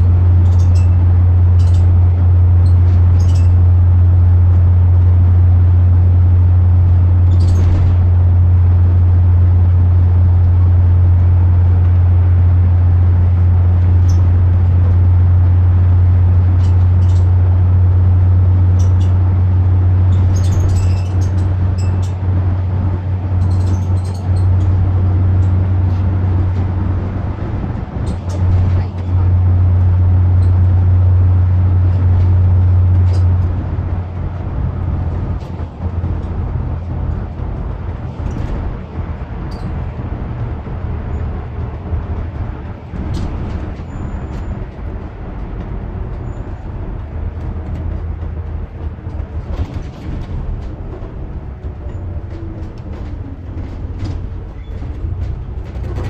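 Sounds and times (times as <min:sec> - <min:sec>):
bus engine and road drone: 0:00.0 - 0:56.0
interior rattles and clicks: 0:00.0 - 0:56.0.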